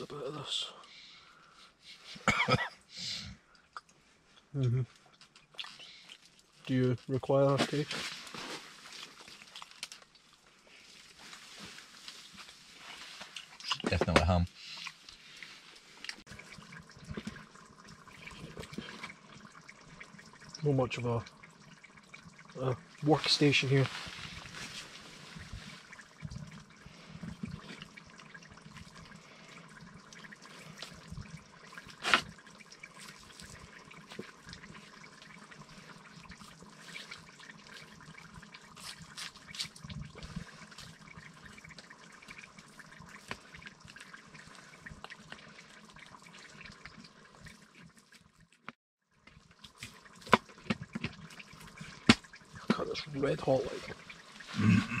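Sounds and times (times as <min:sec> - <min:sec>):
stew simmering and bubbling: 0:00.0 - 0:55.0.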